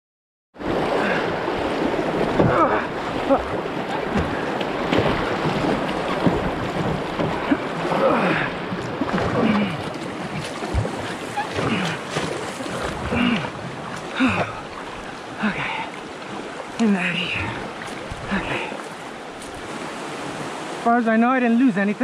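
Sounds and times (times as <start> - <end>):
river rapids rushing and splashing: 0.6 - 22.0.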